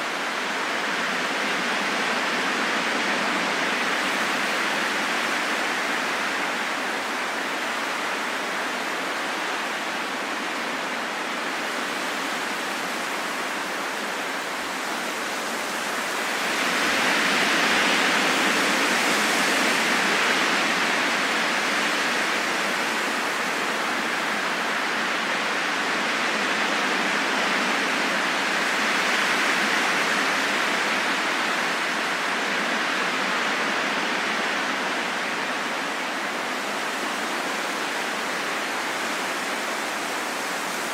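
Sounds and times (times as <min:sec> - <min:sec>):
rushing wind: 0:00.0 - 0:40.9.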